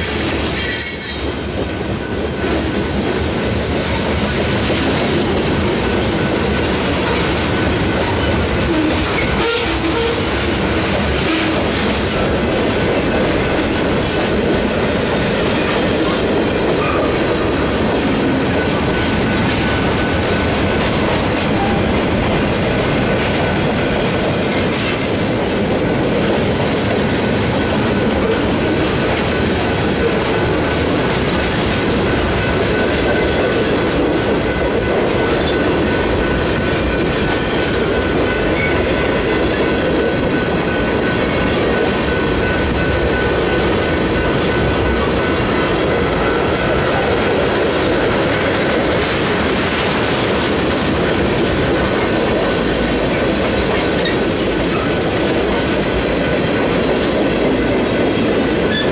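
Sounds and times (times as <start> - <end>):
train wheels rolling on rail: 0.0 - 58.9.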